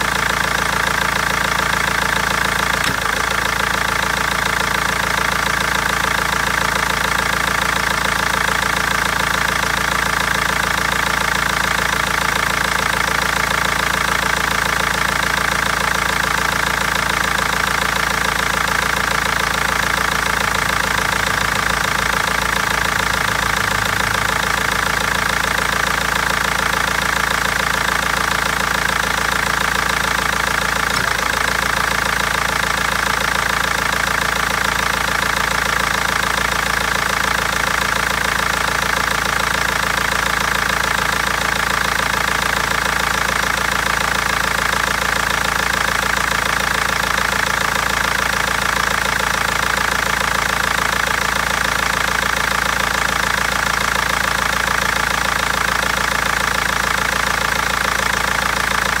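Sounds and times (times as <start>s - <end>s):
diesel engine idling with knock: 0.0s - 59.0s.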